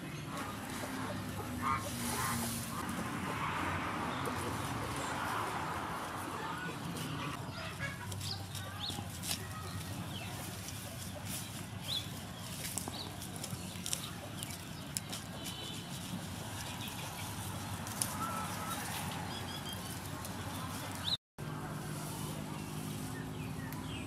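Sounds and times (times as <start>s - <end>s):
birds chirping: 0.0s - 21.2s, 22.2s - 24.0s
dry stalks crackling: 0.2s - 21.2s
leaves rustling: 0.2s - 24.0s.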